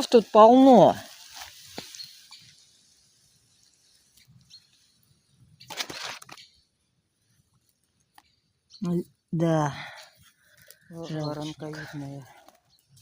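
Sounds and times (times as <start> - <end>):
rustling in dry leaves: 0.0 - 13.0.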